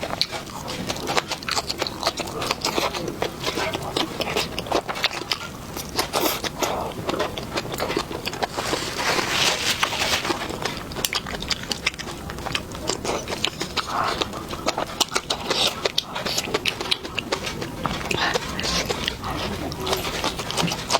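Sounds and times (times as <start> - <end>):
person chewing and lip smacking: 0.0 - 20.9.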